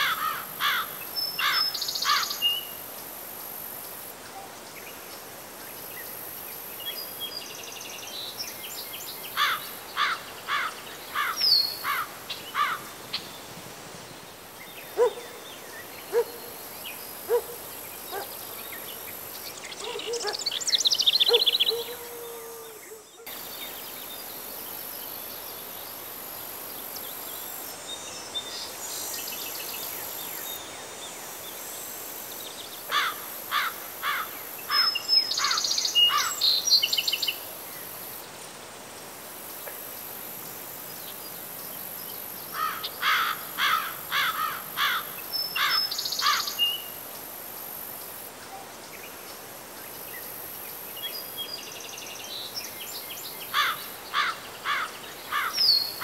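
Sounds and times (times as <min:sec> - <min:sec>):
songbird singing: 0:00.0 - 0:31.6, 0:32.3 - 0:38.0, 0:40.8 - 0:56.0
insects chorus: 0:00.0 - 0:56.0.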